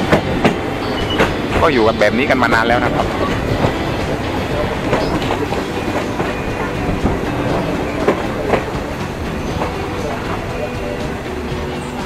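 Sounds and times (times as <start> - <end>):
train wheels on rails: 0.0 - 12.0
wheels clacking over rail joints: 0.0 - 12.0.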